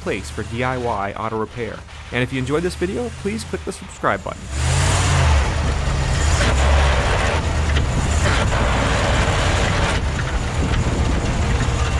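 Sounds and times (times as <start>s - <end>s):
truck drivetrain and road rumble: 0.0s - 11.9s.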